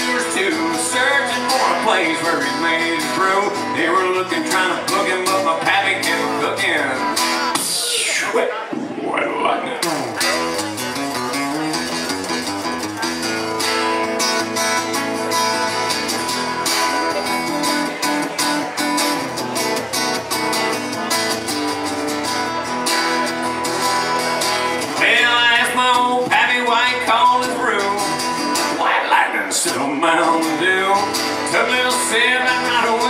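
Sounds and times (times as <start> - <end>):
live country guitar music: 0.0 - 33.0.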